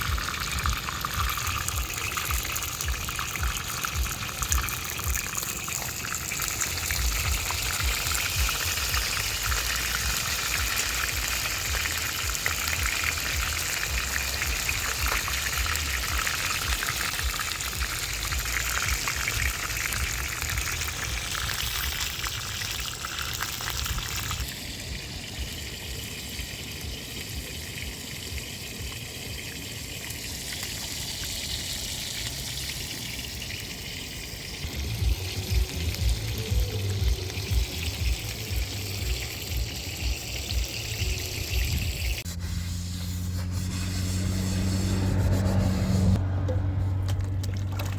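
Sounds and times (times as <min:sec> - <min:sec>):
fish sizzling in hot oil: 0:00.0 - 0:46.2.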